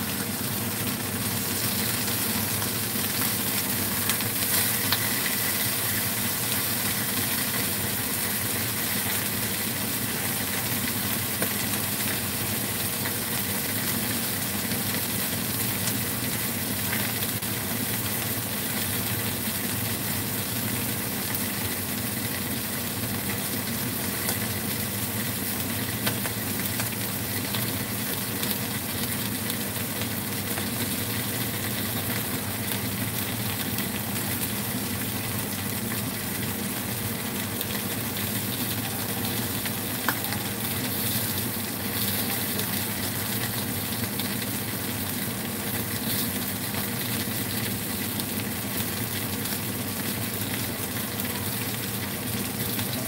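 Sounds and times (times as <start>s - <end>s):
fish sizzling in a pan: 0.0s - 53.0s.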